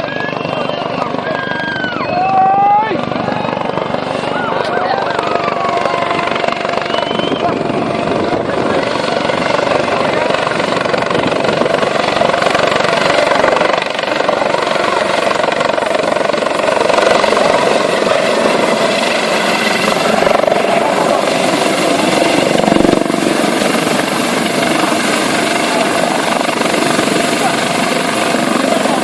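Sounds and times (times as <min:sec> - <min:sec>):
helicopter rotor and turbine: 0:00.0 - 0:29.0.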